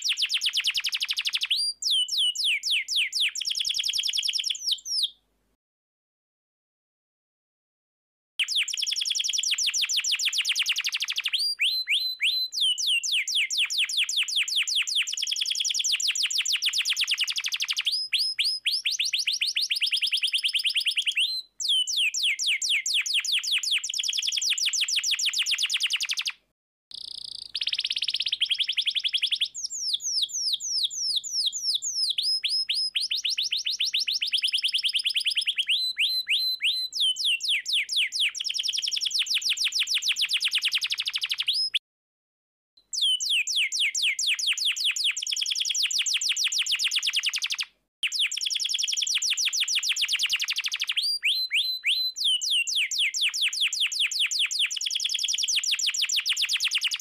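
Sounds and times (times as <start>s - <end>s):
canary singing trills: 0.0s - 5.2s, 8.4s - 41.8s, 42.9s - 57.0s.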